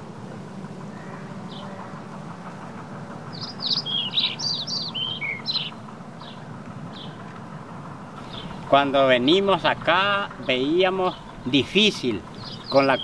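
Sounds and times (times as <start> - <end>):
songbird singing: 0.0 - 13.0
steady low hum: 0.0 - 13.0.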